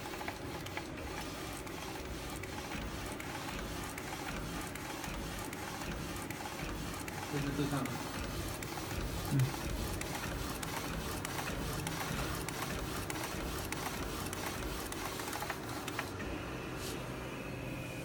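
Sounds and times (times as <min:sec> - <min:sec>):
printer carriage whirring and clicking: 0:00.0 - 0:18.0.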